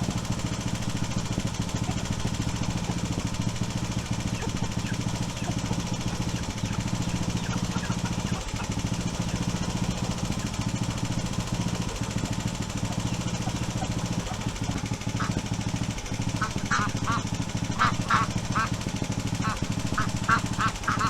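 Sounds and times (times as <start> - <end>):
engine running with fast pulse: 0.0 - 21.0.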